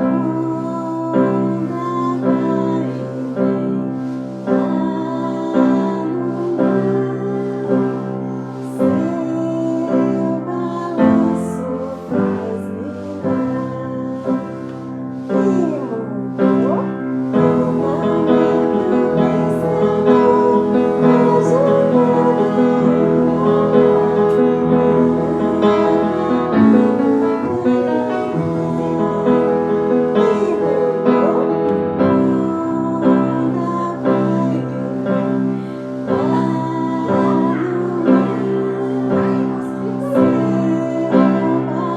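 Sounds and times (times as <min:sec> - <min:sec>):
piano playing: 0:00.0 - 0:41.9
voices singing: 0:00.0 - 0:41.9
woman singing: 0:00.0 - 0:41.9.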